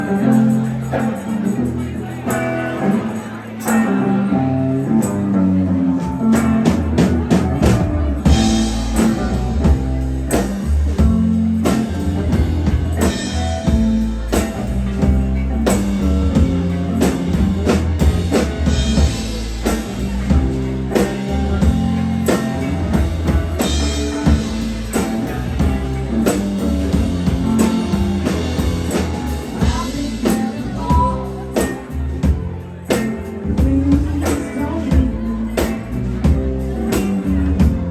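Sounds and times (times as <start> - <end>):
bass guitar: 0.0 - 37.9
electric guitar: 0.0 - 37.9
drum kit beat: 6.0 - 37.9.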